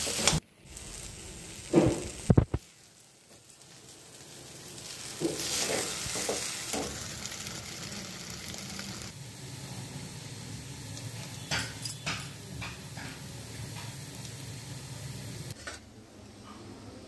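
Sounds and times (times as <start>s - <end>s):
filling sizzling in pan: 0.0s - 15.6s.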